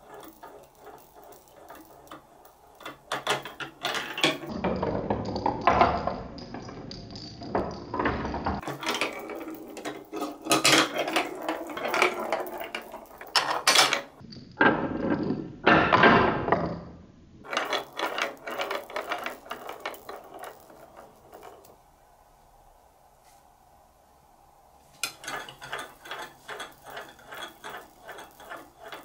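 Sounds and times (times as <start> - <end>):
plastic ball rattling down marble run: 0.0 - 15.8, 17.4 - 21.8, 25.0 - 29.0.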